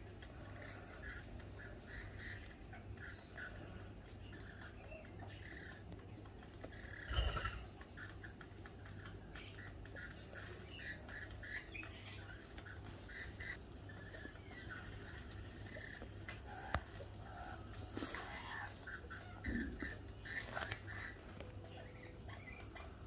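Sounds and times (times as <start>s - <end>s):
birds chattering and chirping: 0.0s - 23.0s.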